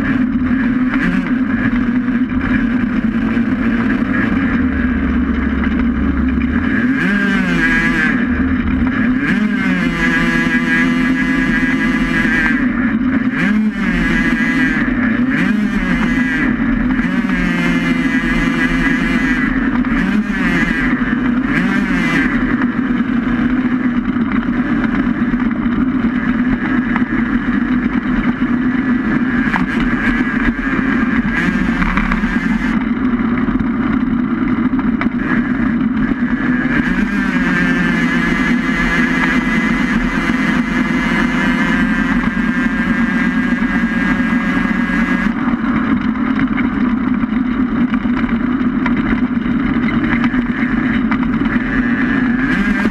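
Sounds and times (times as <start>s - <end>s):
racing vehicle noise on board: 0.0s - 52.9s.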